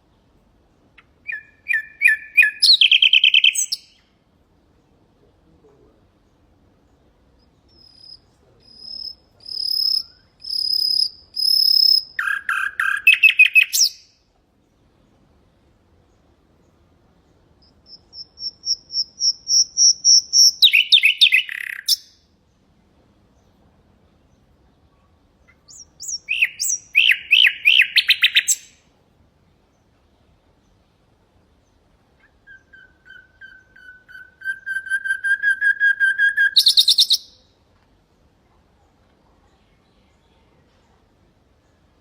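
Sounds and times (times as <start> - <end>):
nightingale singing: 0.0 - 15.2, 15.9 - 22.6, 23.3 - 28.9, 29.6 - 37.6.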